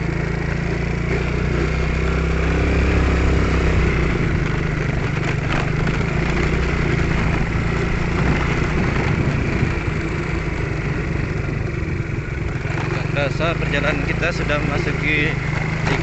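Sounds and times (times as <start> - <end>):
road and wind noise: 0.0 - 16.0
vehicle engine running: 0.0 - 16.0.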